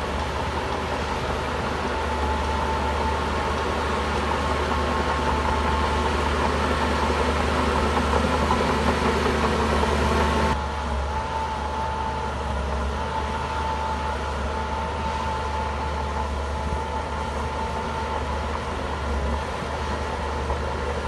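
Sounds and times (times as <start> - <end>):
bulldozer diesel engine rumbling: 0.0 - 21.0.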